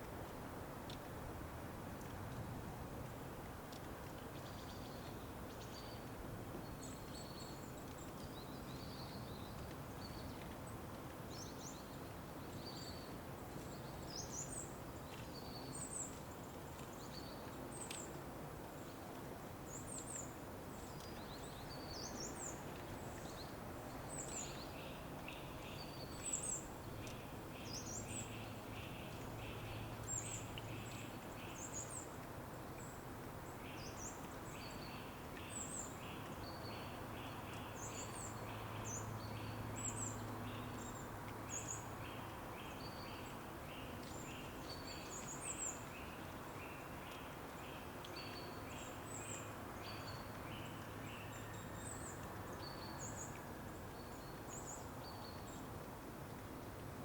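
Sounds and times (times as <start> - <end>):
outdoor ambience hiss: 0.0 - 57.0.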